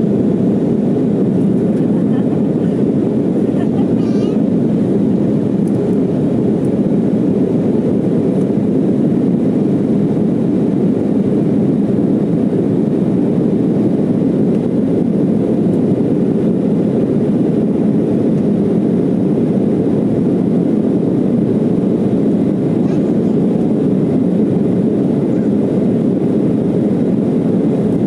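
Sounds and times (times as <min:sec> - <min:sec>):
jet engine cabin rumble: 0:00.0 - 0:28.0.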